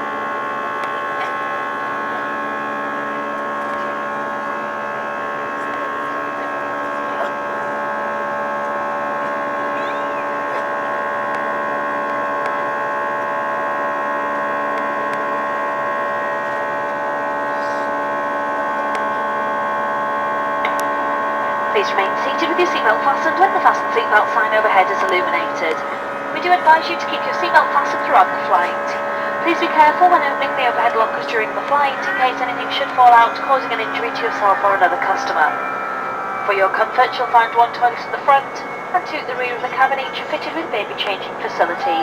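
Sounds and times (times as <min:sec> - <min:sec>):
aircraft cabin engine drone: 0:00.0 - 0:42.0
whining tones: 0:00.0 - 0:42.0.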